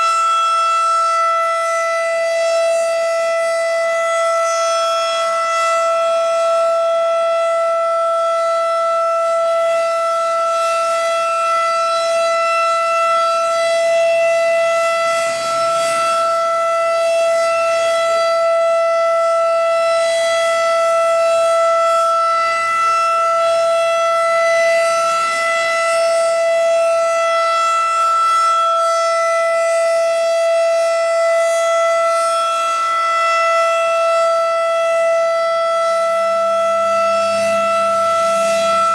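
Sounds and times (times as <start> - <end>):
tornado siren steady tone: 0.0 - 38.9.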